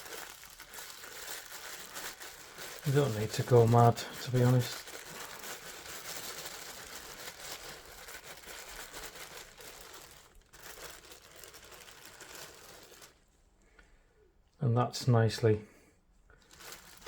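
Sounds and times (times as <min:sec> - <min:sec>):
plastic bag crinkling: 0:00.0 - 0:13.4, 0:16.3 - 0:17.0.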